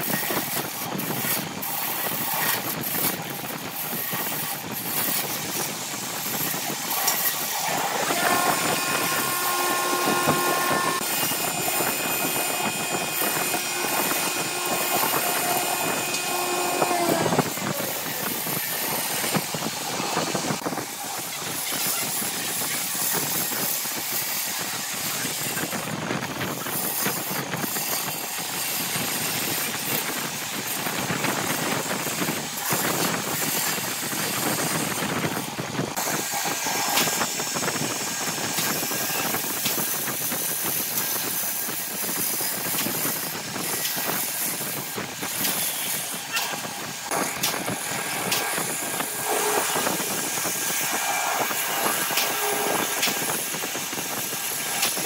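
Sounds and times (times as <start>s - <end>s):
wood lathe cutting wood: 0.1s - 25.6s, 26.6s - 55.0s.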